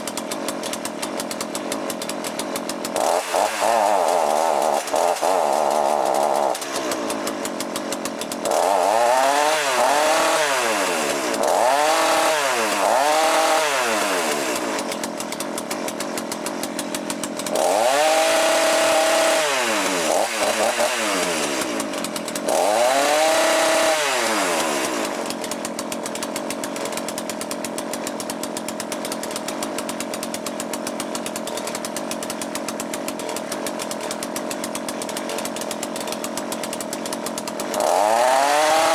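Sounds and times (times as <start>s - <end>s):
chainsaw engine revving and idling: 0.0s - 38.9s.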